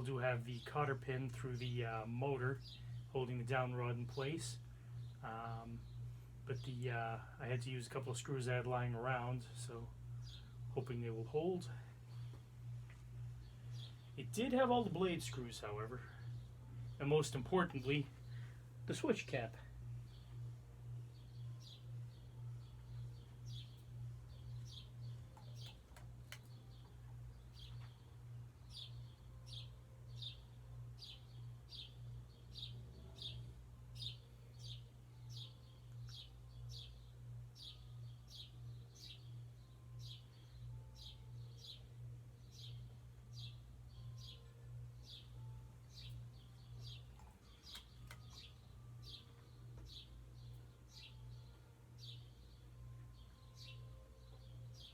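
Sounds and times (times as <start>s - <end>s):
ceiling fan motor hum: 0.0s - 54.9s.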